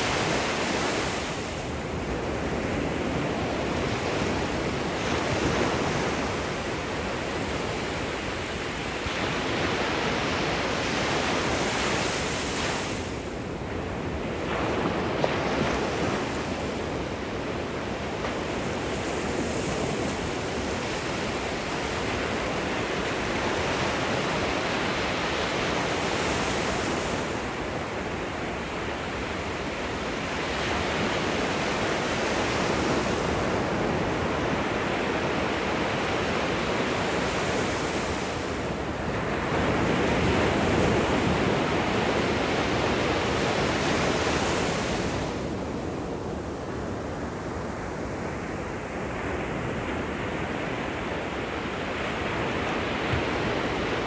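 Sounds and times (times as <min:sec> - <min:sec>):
gentle surf at shoreline: 0:00.0 - 0:54.0.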